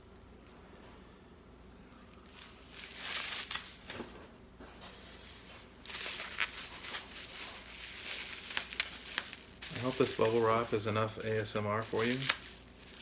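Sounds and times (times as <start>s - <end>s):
bubble wrap rustling and crinkling: 2.2s - 13.0s.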